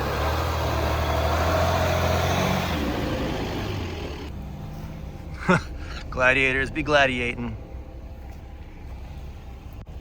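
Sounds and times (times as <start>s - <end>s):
engine running while driving: 0.0s - 10.0s
road noise: 0.0s - 10.0s.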